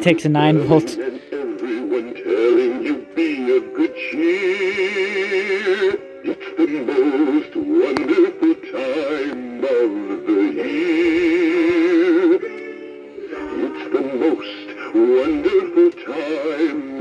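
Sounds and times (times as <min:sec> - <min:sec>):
synthetic voice singing with vibrato: 0:00.4 - 0:17.0.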